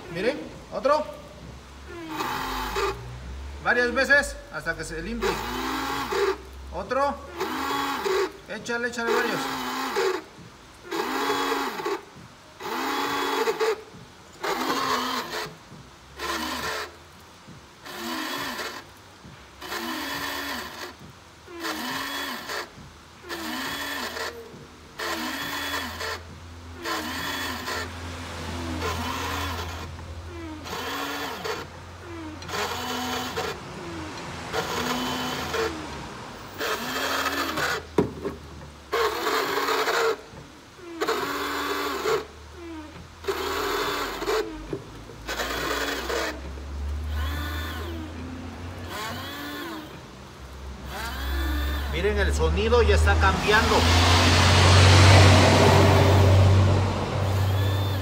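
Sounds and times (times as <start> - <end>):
washer pump whirring bursts: 0.0 - 58.0.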